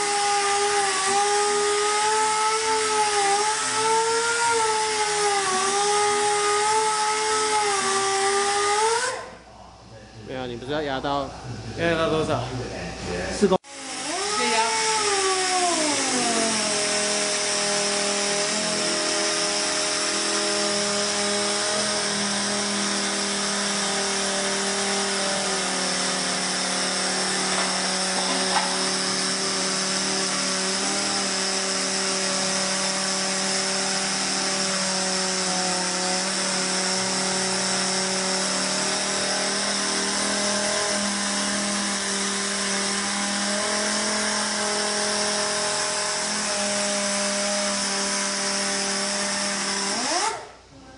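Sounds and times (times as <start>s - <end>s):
orbital sander whine: 0.0s - 9.4s, 13.6s - 50.6s.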